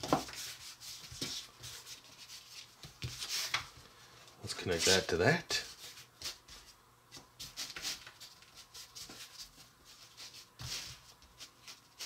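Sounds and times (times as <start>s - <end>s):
hands rubbing soft dough: 0.0s - 3.9s, 4.5s - 12.0s.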